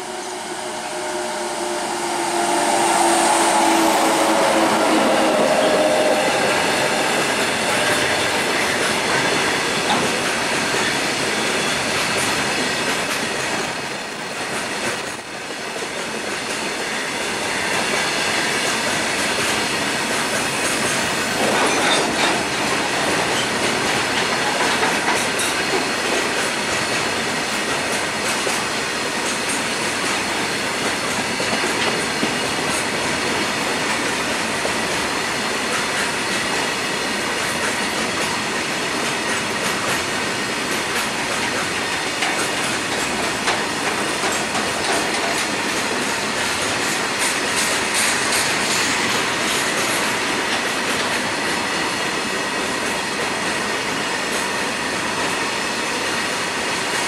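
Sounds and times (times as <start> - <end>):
electric locomotive whine: 0.0 - 57.0.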